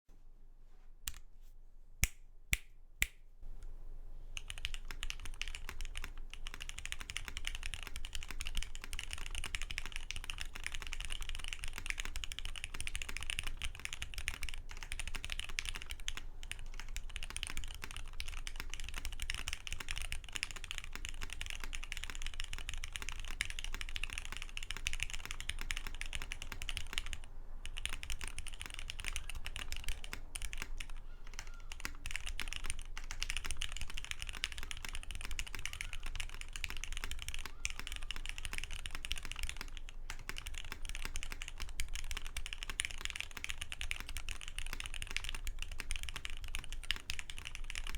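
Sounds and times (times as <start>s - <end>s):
mechanical keyboard typing: 4.4s - 47.9s.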